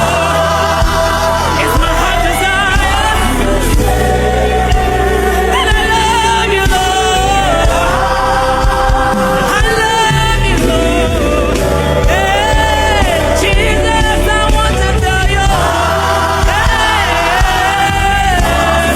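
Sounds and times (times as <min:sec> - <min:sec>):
band with bass and keyboard: 0:00.0 - 0:18.9
choir and congregation singing: 0:00.0 - 0:18.9.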